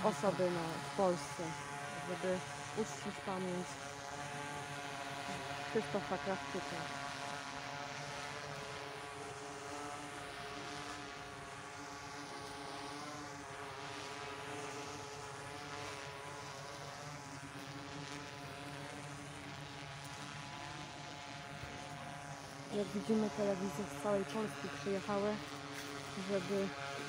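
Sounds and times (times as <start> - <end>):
steady motor drone: 0.0 - 27.0.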